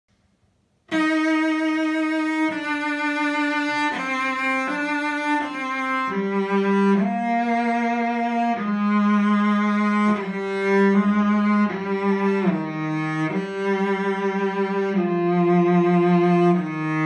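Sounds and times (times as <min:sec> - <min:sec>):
bowed cello melody: 0:00.9 - 0:17.0.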